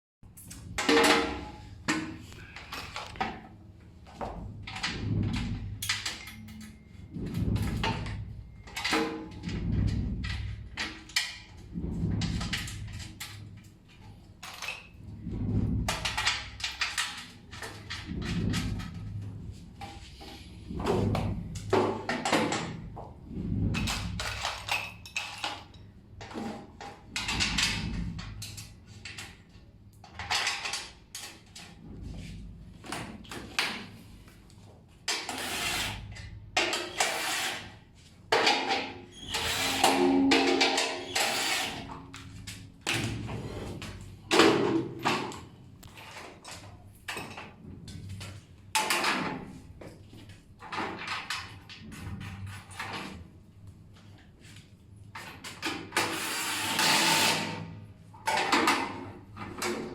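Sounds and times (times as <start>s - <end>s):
metal and wood parts clunking: 0.6s - 37.3s, 38.0s - 53.3s.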